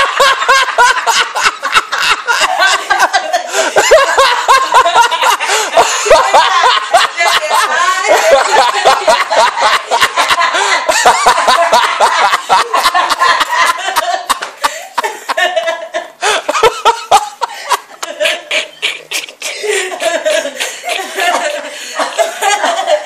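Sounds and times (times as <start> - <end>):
people laughing loudly: 0.0 - 23.0.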